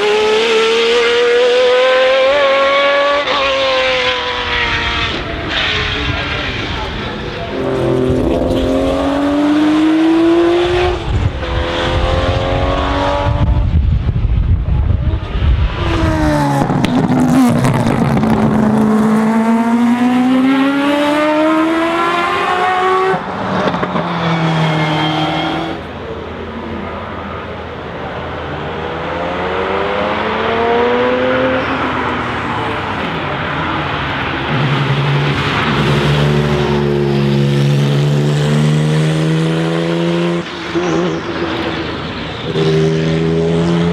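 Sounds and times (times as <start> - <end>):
racing car engine at full throttle: 0.0 - 43.9.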